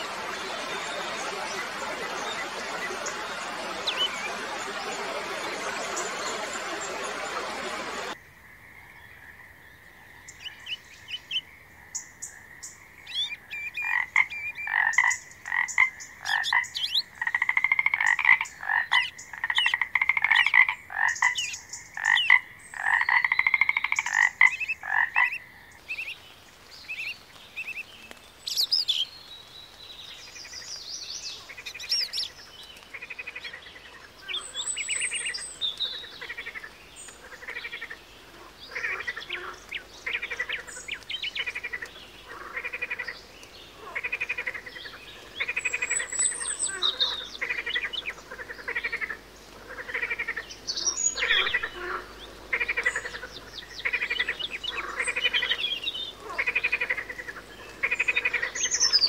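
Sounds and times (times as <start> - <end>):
frogs croaking: 0.0 - 29.3, 30.0 - 59.0.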